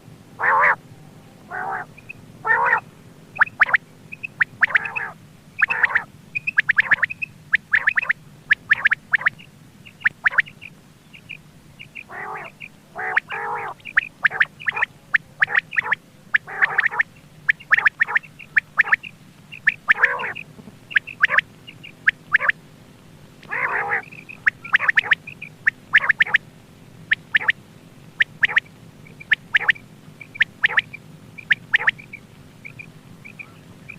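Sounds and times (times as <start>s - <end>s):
faint steady hum: 0.0s - 33.9s
quail calling: 0.4s - 0.8s, 1.4s - 22.6s, 23.4s - 26.4s, 27.0s - 33.9s.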